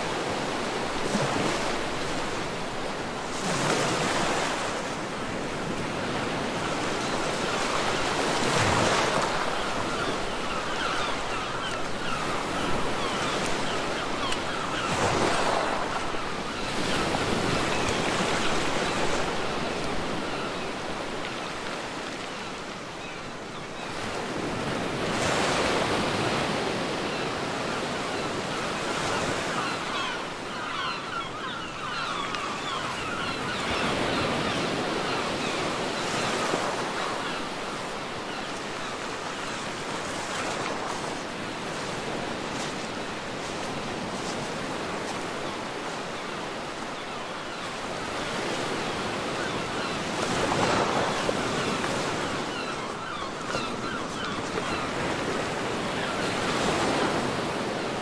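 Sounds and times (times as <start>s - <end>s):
sea waves breaking on a beach: 0.0s - 58.0s.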